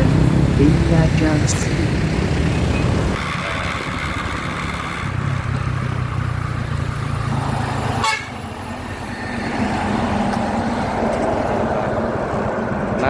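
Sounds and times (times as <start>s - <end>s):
road noise: 0.0s - 13.0s
traffic noise: 0.0s - 13.0s.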